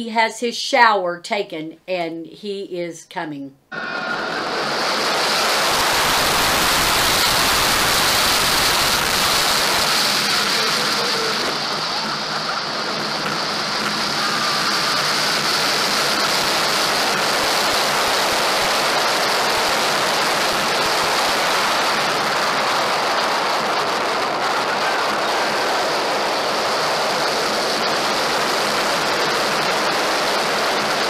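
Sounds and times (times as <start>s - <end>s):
wind rushing over microphone: 3.7s - 31.0s.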